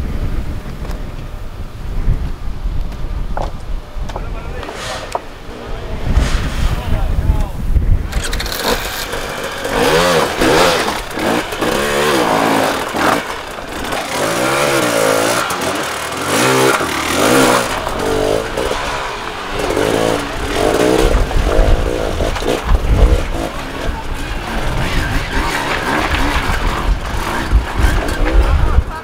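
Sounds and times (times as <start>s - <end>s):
motorcycle engine revving: 4.5s - 29.0s.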